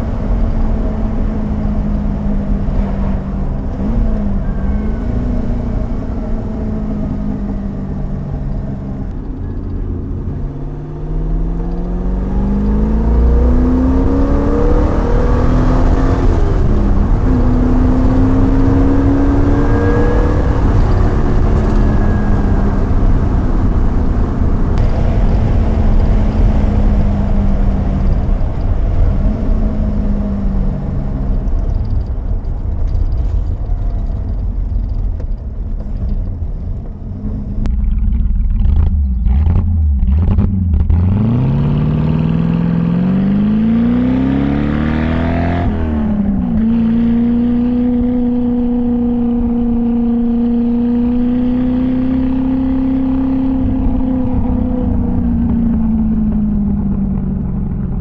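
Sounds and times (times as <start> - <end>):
car engine driving: 0.0 - 58.0.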